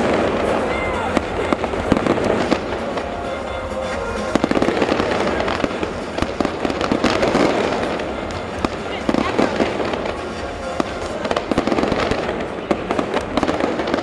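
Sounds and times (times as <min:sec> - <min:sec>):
fireworks crackling and popping: 0:00.0 - 0:14.0
sharp firework reports: 0:00.0 - 0:14.0.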